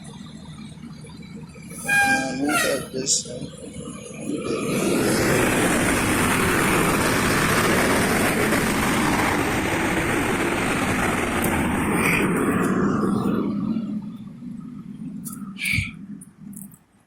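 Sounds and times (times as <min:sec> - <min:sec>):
heavy vehicle passing: 0:01.7 - 0:16.5.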